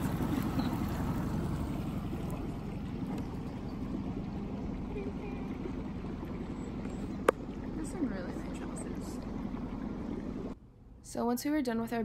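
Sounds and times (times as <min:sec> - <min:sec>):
outboard motor running: 0:00.0 - 0:10.6
water washing past hull: 0:00.0 - 0:10.6.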